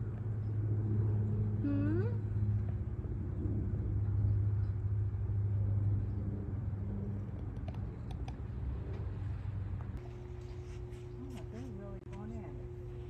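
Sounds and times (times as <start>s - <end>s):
low mechanical hum with rumble: 0.0s - 13.0s.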